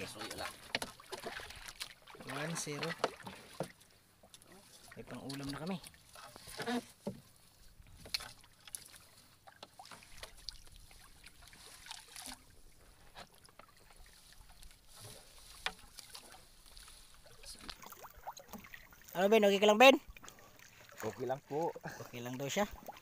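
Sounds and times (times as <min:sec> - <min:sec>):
water dripping and splashing: 0:00.0 - 0:23.0.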